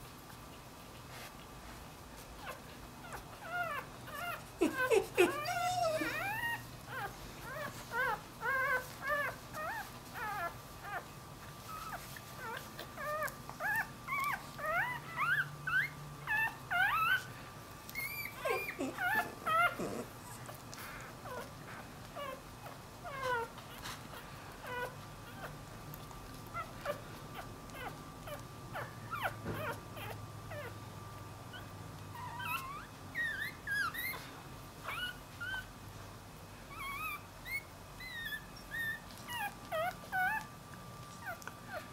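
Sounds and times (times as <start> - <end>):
puppy whining: 0.2 - 35.8, 36.6 - 41.9.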